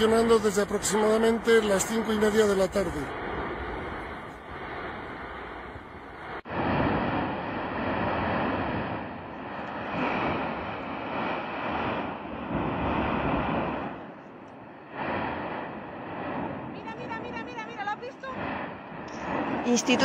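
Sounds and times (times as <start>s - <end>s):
volcano vent rumbling: 0.0s - 20.0s.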